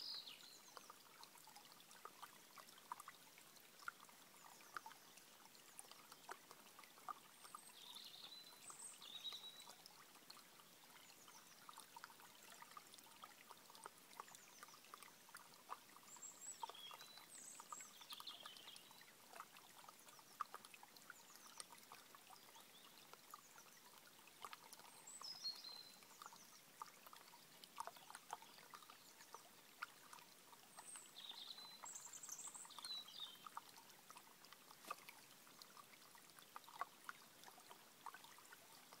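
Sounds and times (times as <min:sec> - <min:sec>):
stream trickling over stones: 0:00.0 - 0:39.0.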